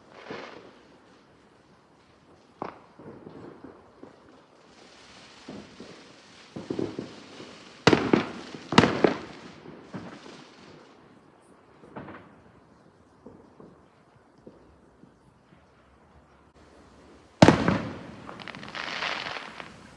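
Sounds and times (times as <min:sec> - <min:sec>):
fireworks bangs: 0:00.0 - 0:01.2, 0:02.0 - 0:19.9
hiss: 0:00.0 - 0:14.8, 0:16.5 - 0:19.9
firework pops and crackles: 0:00.0 - 0:19.9.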